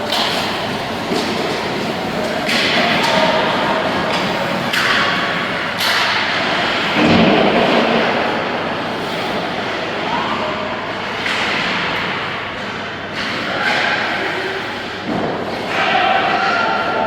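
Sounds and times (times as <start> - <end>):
steady rushing noise: 0.0 - 15.5.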